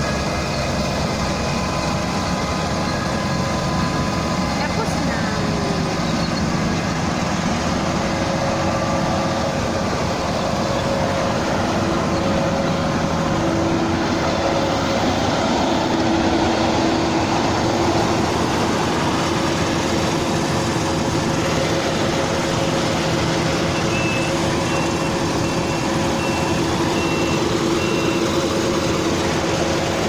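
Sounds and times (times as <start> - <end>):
rice harvester running: 0.0 - 30.0.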